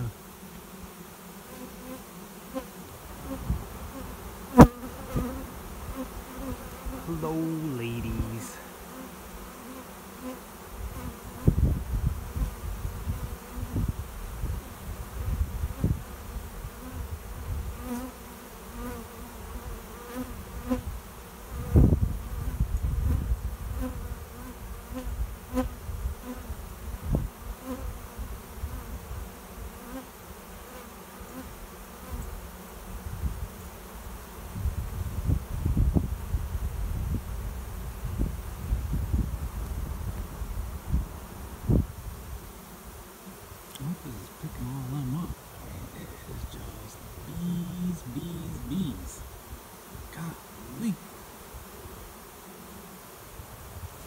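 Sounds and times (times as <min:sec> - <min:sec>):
bees buzzing: 0:00.0 - 0:34.6, 0:37.4 - 0:54.0.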